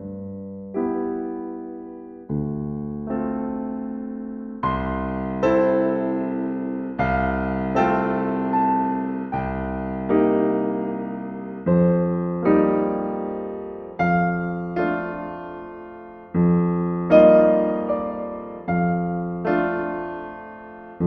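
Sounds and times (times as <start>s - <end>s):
gentle solo piano: 0.0s - 21.0s.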